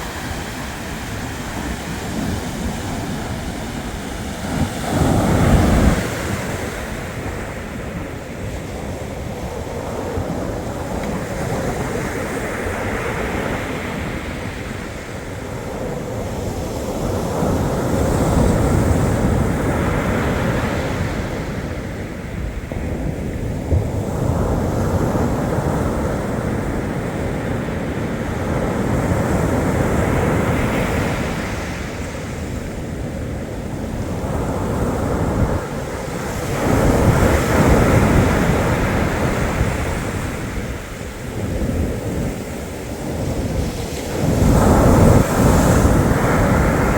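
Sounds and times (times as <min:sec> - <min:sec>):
surf washing onto shore: 0:00.0 - 0:46.9
wind rumbling on microphone: 0:00.0 - 0:46.9.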